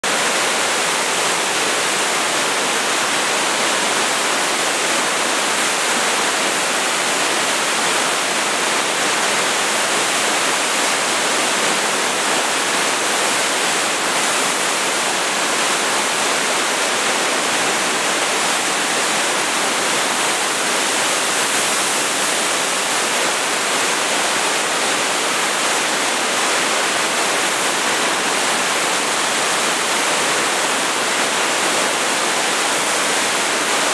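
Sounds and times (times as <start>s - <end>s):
water rushing through spillway: 0.0s - 33.9s.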